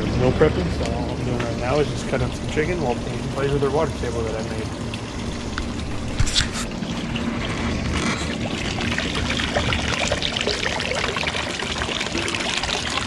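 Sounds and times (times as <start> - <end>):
water pouring into basin: 0.0 - 13.0.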